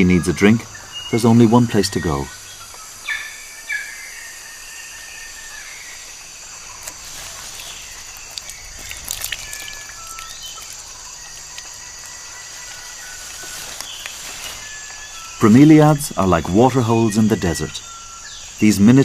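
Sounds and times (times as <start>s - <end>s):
high-pitched insect chorus: 0.0s - 19.0s
whistled bird calls: 0.0s - 19.0s.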